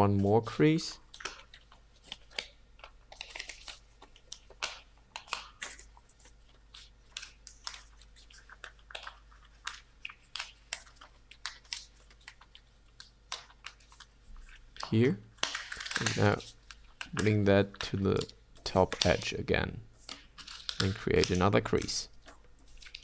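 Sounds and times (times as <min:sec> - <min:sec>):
paper crinkling as folded: 0:00.2 - 0:23.0.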